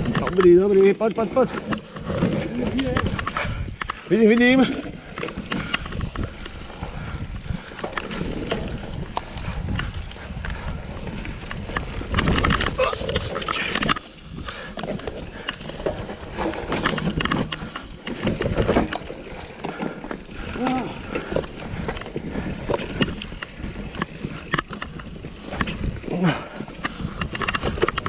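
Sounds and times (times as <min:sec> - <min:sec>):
bike rattling over bumps: 0:00.0 - 0:28.0.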